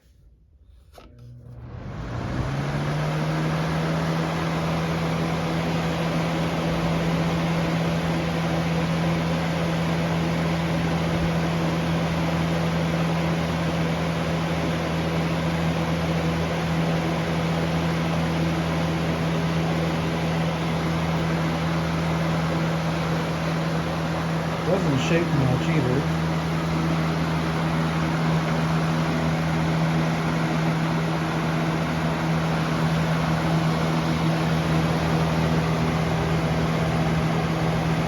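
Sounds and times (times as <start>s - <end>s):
box fan humming: 0.0s - 38.0s.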